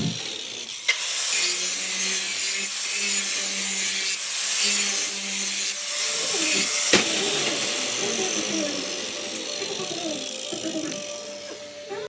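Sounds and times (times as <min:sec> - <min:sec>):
power tool grinding steel: 0:00.0 - 0:12.0.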